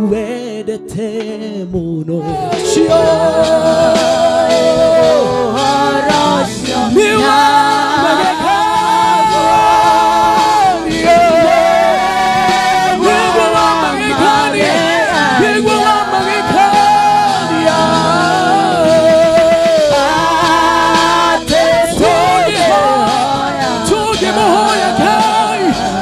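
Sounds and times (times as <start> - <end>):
person singing gospel: 0.0 - 26.0
sustained keyboard accompaniment: 0.0 - 26.0.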